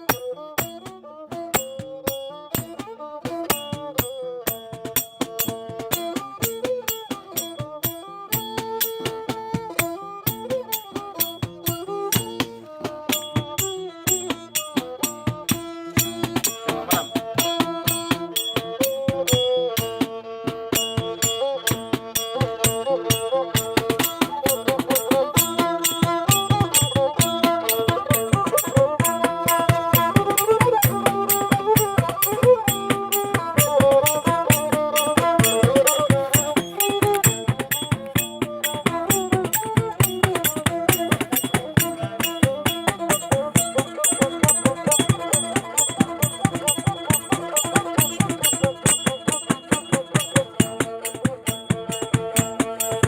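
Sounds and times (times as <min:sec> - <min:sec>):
clicking percussion beat: 0:00.0 - 0:53.0
fiddle bowing folk melody: 0:00.0 - 0:53.0.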